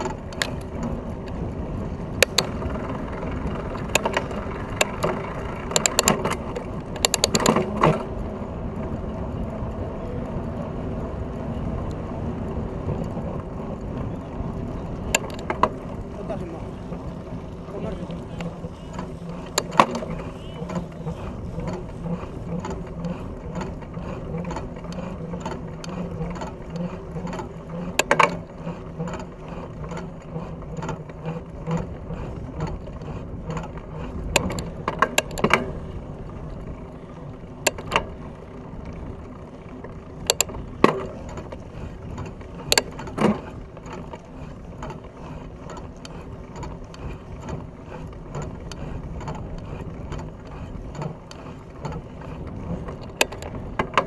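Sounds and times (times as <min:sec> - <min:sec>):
bike rattling clicks and knocks: 0:00.0 - 0:54.0
drivetrain ticking: 0:00.0 - 0:54.0
tyres humming on asphalt: 0:00.0 - 0:54.0.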